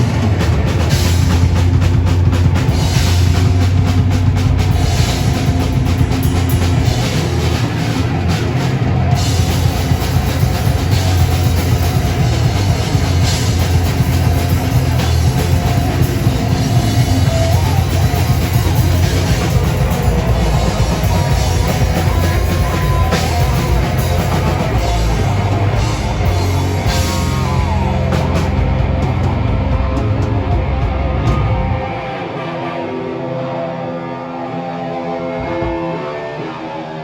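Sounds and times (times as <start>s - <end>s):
drum kit with cymbals: 0.0s - 32.0s
heavy metal band playing live: 0.0s - 37.0s.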